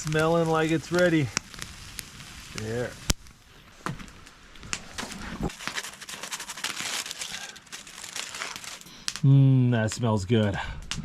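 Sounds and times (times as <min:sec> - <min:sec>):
food sizzling over campfire: 0:00.0 - 0:11.0.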